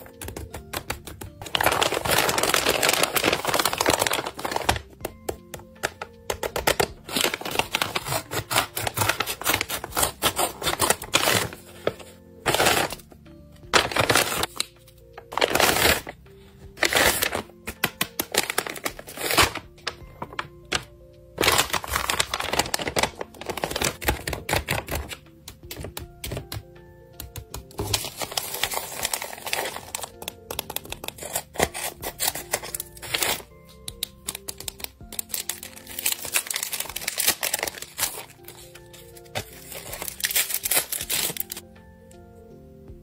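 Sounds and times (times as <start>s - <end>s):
paper packaging crinkling: 0.0s - 13.0s, 13.7s - 16.2s, 16.8s - 26.5s, 27.7s - 41.6s
soft background music: 0.0s - 43.0s.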